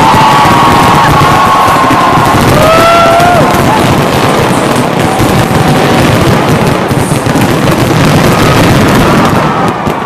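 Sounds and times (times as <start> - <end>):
firework explosions and crackling: 0.0 - 10.0.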